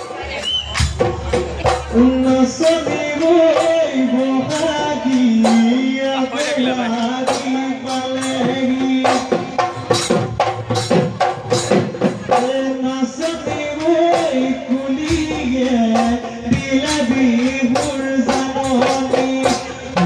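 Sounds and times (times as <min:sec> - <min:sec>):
dhol drums beating: 0:00.0 - 0:20.0.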